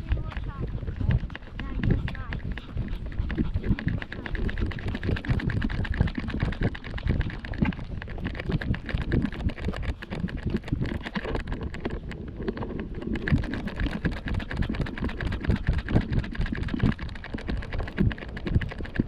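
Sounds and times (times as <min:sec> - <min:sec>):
camera rubbing and bumping: 0:00.0 - 0:19.0.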